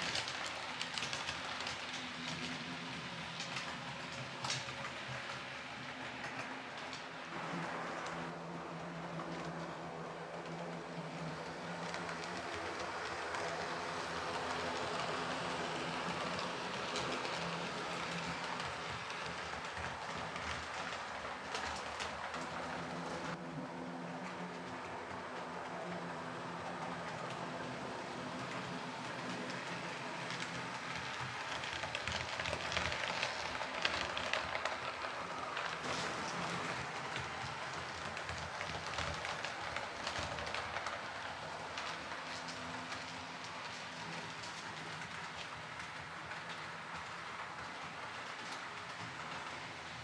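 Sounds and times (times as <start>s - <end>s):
diesel locomotive engine: 0.0s - 50.0s
train wheels rumbling on rails: 0.0s - 50.0s.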